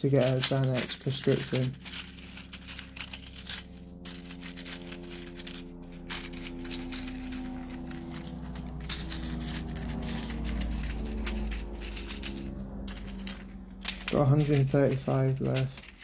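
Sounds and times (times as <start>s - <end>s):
foil blister packs crinkling: 0.0s - 16.0s
low hum of held tones: 0.0s - 16.0s.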